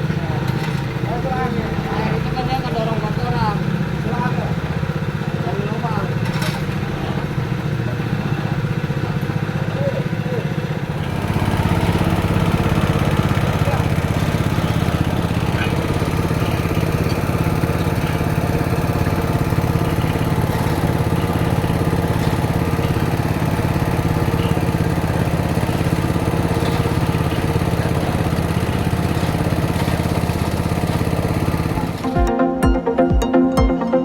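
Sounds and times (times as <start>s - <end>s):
drilling rig engine running: 0.0s - 32.3s.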